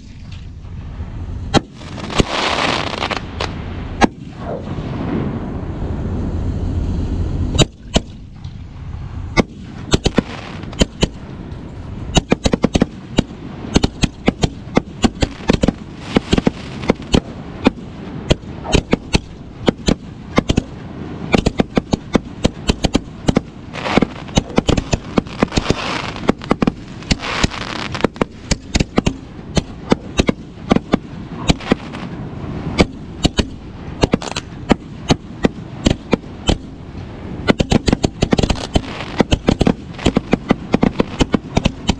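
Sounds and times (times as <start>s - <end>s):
background noise: 0.0s - 41.9s
fireworks bangs and cracks: 1.5s - 5.4s, 9.4s - 41.9s.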